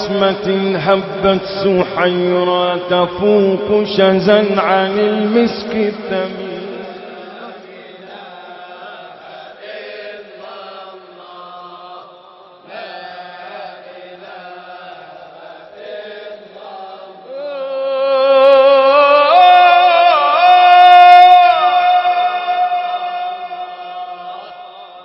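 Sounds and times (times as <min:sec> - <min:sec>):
devotional singing with vibrato: 0:00.0 - 0:25.0.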